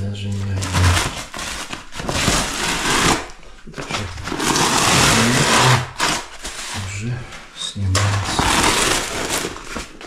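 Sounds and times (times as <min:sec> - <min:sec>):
wallpaper tearing off a wall: 0:00.4 - 0:06.9, 0:08.0 - 0:10.0.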